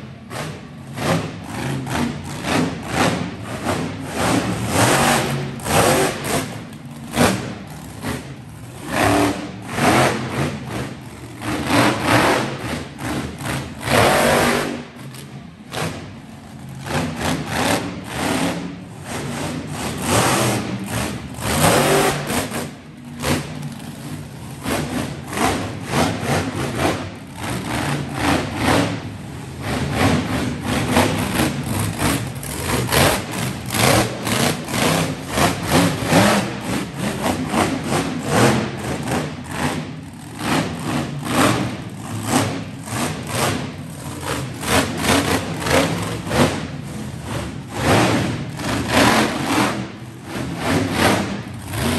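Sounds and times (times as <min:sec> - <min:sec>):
monster truck engine revving: 0:00.1 - 0:51.9.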